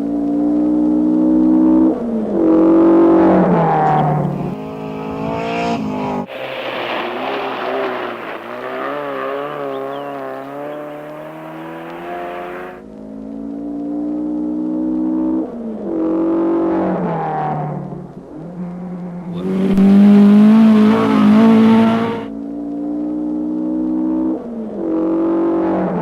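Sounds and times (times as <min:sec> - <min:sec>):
rally car engines revving: 0:00.0 - 0:12.8, 0:13.4 - 0:26.0.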